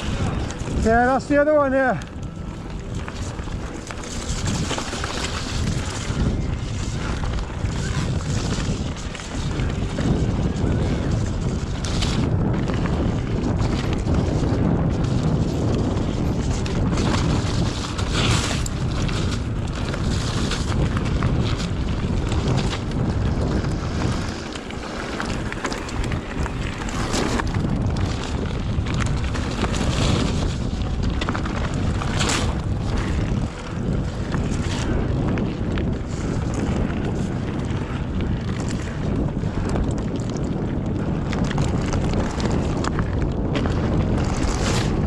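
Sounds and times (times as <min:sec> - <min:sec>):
bike rumbling over rough trail: 0:00.0 - 0:45.0
wind on microphone: 0:00.0 - 0:45.0.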